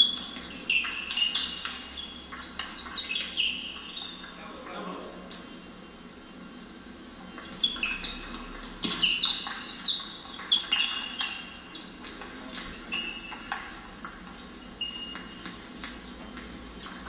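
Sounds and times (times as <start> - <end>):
sports shoes squeaking: 0.0 - 5.0, 7.2 - 17.0.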